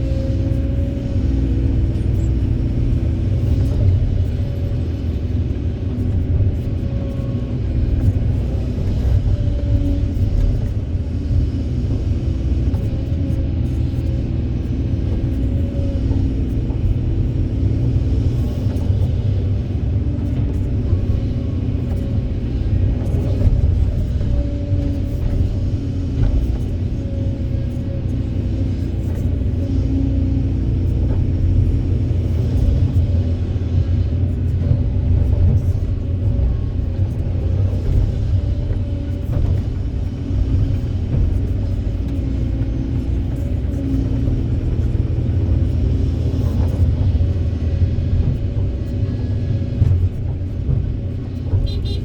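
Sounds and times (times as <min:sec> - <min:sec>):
excavator diesel engine rumbling: 0:00.0 - 0:52.0.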